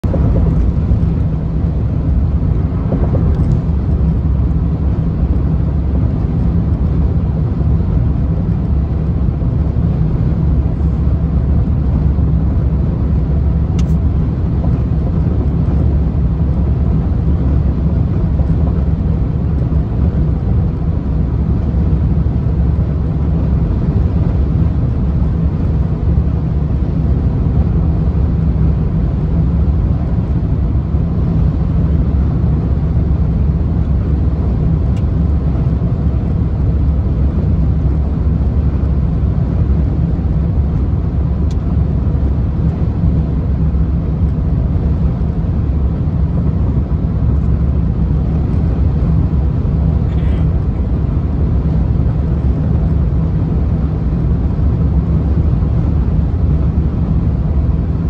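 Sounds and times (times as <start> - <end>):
vehicle driving on highway: 0.0 - 58.0.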